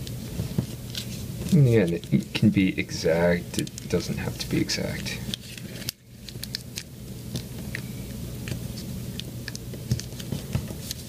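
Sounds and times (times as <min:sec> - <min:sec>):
paper crinkling: 0:00.0 - 0:02.7, 0:03.6 - 0:11.0
low steady hum: 0:00.0 - 0:11.0.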